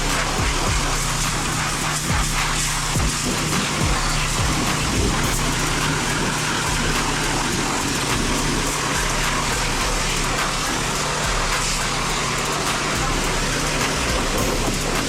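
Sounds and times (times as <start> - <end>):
pressure washer hum: 0.0 - 15.0
water jet spraying: 0.0 - 15.0.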